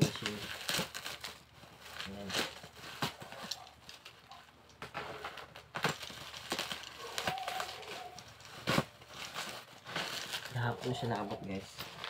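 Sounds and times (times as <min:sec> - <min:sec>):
bubble wrap rustling and crinkling: 0:00.0 - 0:12.0.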